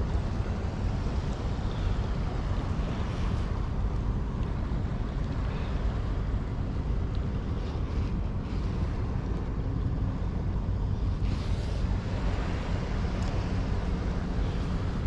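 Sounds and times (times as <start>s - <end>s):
faint hiss of the sea: 0.0s - 15.0s.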